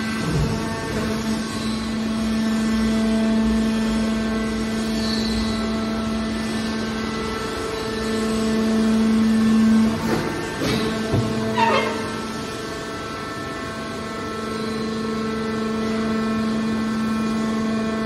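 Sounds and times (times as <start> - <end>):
hydraulic pump humming: 0.0 - 18.0.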